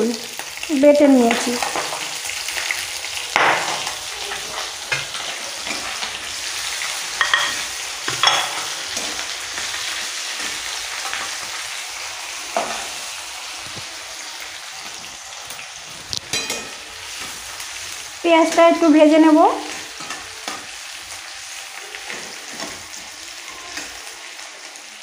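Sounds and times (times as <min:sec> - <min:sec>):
onion sizzling in oil: 0:00.0 - 0:25.0.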